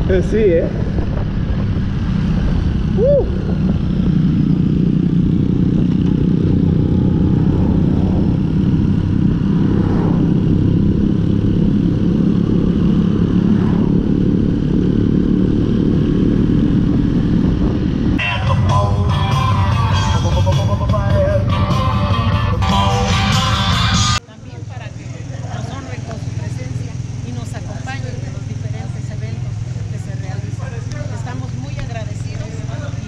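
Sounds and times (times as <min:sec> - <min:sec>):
motorcycle engine cruising: 0:00.0 - 0:33.0
road and wind noise: 0:00.0 - 0:33.0.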